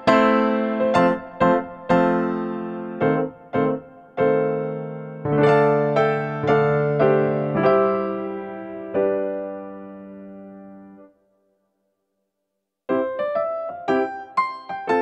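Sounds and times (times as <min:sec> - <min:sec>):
piano chords ringing: 0:00.0 - 0:11.1, 0:12.9 - 0:15.0.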